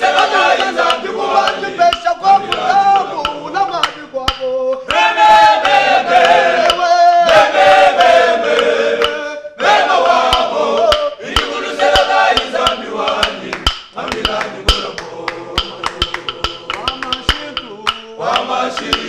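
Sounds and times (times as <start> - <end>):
hand claps: 0.0 - 19.0
men's choir singing a cappella: 0.0 - 19.0.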